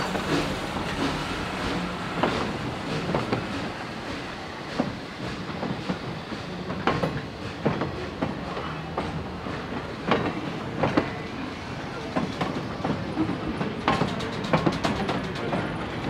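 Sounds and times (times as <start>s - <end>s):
train rolling rumble: 0.0s - 16.0s
train wheels clacking over rail joints: 0.0s - 16.0s.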